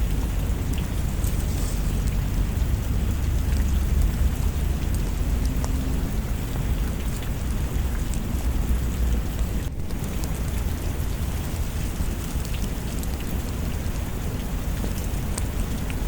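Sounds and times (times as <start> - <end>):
deep continuous rumble: 0.0 - 16.0
steady rain: 0.0 - 16.0.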